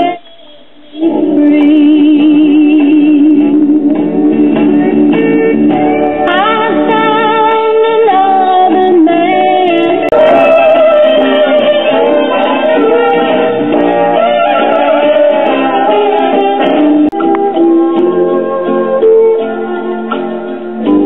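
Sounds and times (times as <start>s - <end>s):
vinyl record music through speaker: 0.0s - 21.0s.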